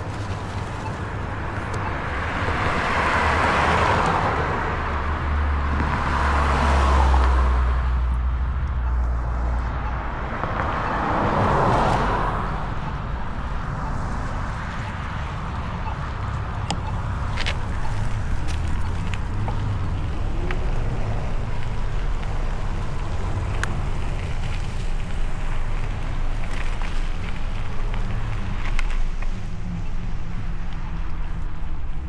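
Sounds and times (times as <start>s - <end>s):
cars passing by: 0.0s - 32.0s.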